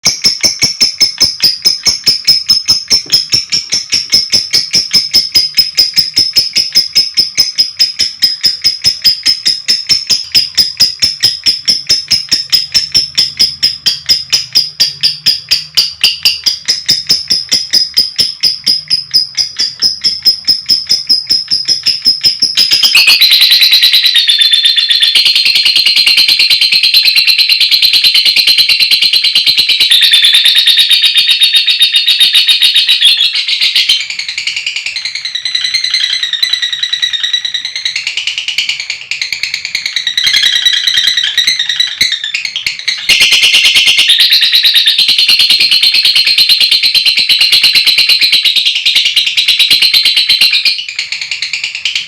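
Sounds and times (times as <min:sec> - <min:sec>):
lovebird chirping: 0:00.0 - 0:52.0.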